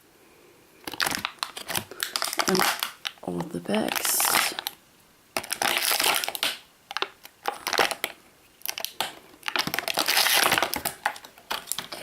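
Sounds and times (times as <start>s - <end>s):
plastic bags crinkling: 0.8s - 4.8s, 5.4s - 12.0s.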